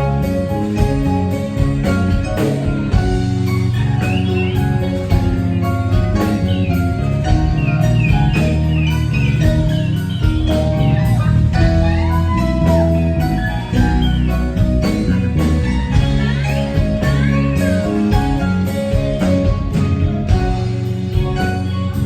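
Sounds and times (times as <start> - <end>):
bass guitar: 0.0 - 22.0
drums: 0.0 - 22.0
electric guitar lead: 0.0 - 22.0.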